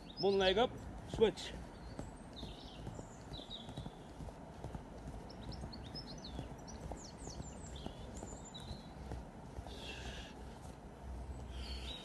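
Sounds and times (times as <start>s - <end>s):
small birds chirping: 0.0s - 12.0s
feet thudding on grass: 0.8s - 12.0s.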